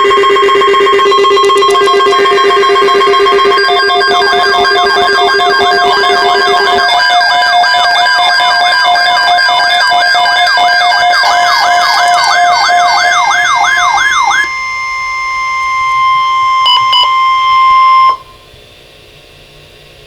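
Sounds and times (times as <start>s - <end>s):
electronic siren-like wail: 0.0s - 18.5s
steady electronic tone: 0.0s - 18.5s.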